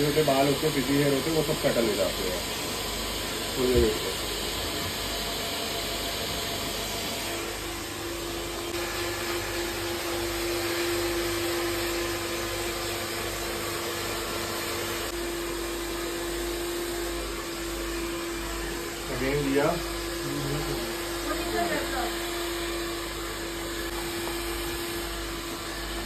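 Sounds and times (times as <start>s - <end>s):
blow dryer air rush: 0.0s - 26.0s
motor whine: 0.0s - 26.0s.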